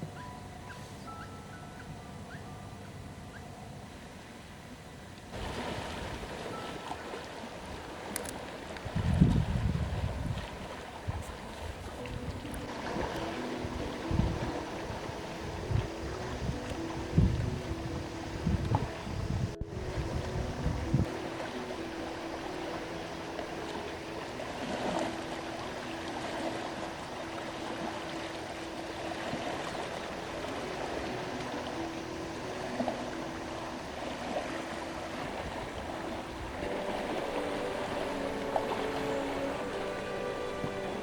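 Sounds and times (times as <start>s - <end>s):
sea waves on the shore: 0.0s - 41.0s
soft background music: 0.0s - 41.0s.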